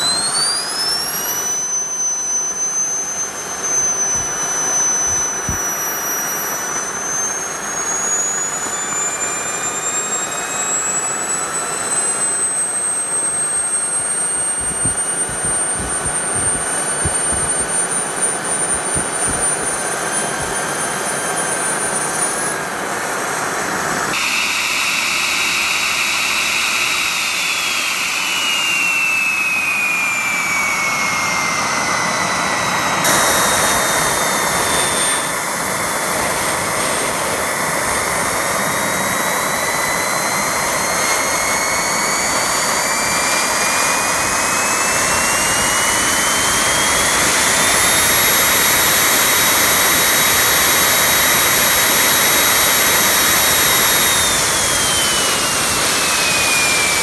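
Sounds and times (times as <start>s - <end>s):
jet turbine whining: 0.0s - 57.0s.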